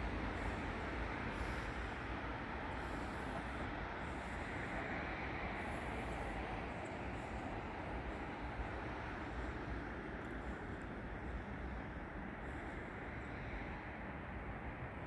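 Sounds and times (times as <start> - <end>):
railway station rumble and hiss: 0.0 - 15.0.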